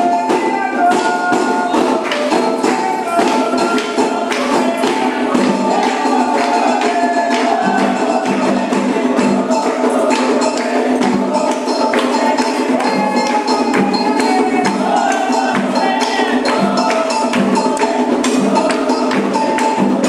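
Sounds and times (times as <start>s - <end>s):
dense rhythmic percussion: 0.0s - 20.0s.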